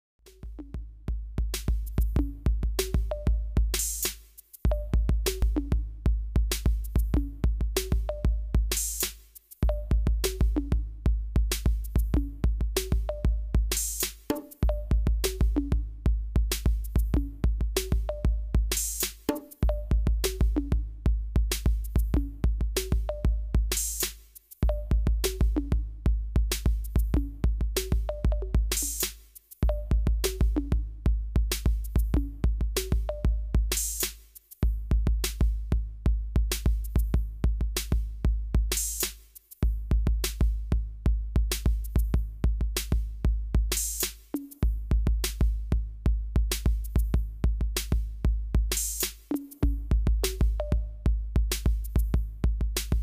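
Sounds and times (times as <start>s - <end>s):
electronic music with beat: 0.3s - 53.0s.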